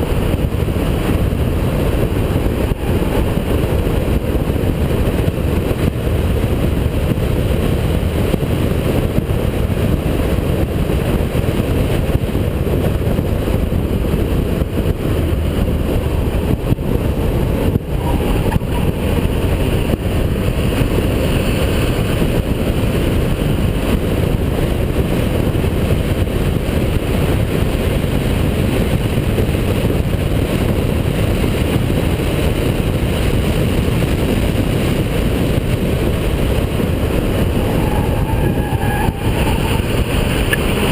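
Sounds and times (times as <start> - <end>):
car engine running hard: 0.0 - 40.9.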